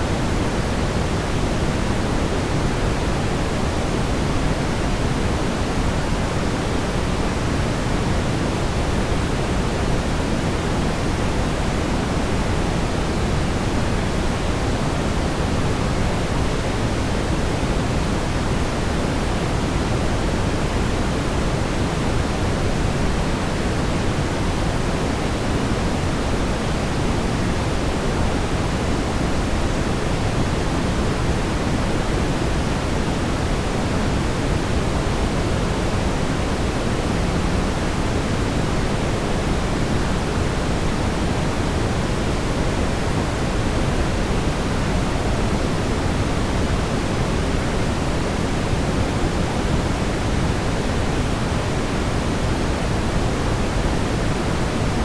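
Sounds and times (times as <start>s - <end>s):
steady brown noise: 0.0s - 55.0s.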